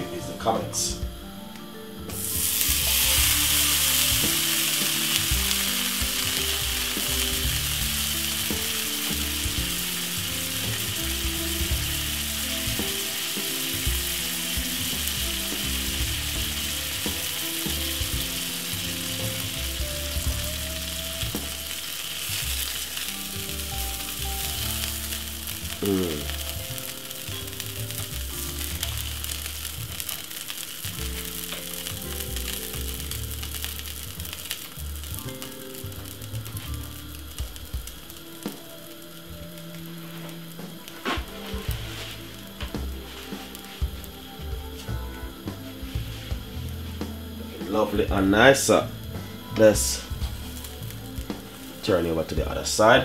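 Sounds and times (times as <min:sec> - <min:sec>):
batter sizzling in a frying pan: 0:02.2 - 0:53.0.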